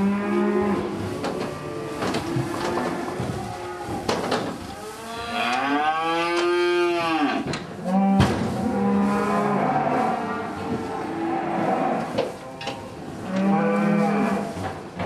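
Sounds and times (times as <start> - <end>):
calves mooing: 0.0 - 14.6.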